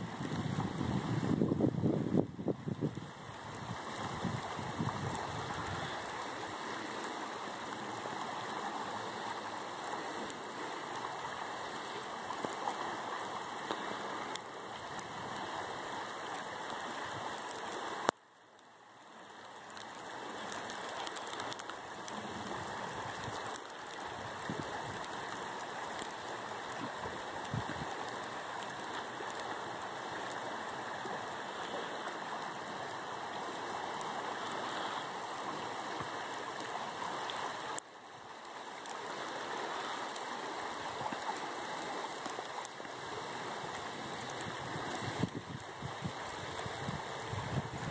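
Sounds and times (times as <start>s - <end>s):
freezing rain falling: 0.0s - 47.9s
river rushing: 0.0s - 47.9s.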